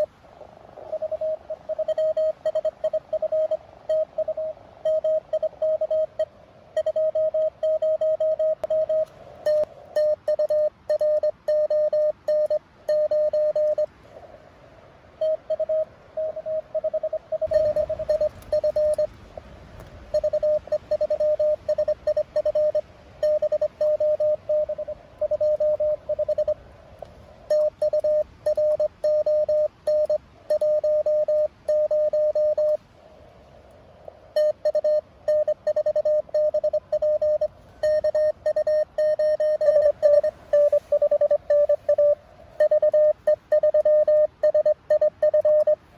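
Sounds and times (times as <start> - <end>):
faint radio band hiss: 0.0 - 45.9
morse code tone: 0.8 - 13.9, 15.2 - 19.4, 20.0 - 26.6, 27.5 - 32.8, 34.3 - 45.9.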